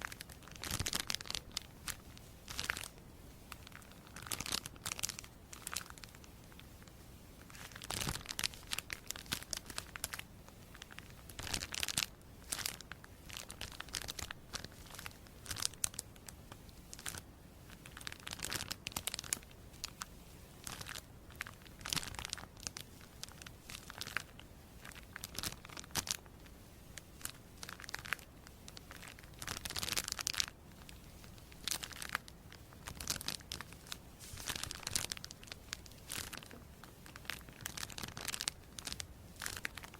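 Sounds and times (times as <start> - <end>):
crinkling and tearing: 0.0 - 16.0, 17.8 - 26.4, 27.0 - 39.9.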